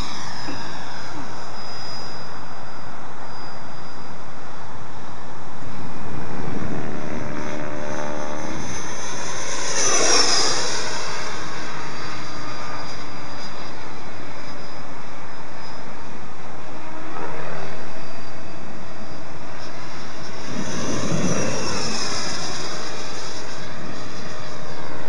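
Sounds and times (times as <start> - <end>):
electric ducted fan whining: 0.0 - 25.0.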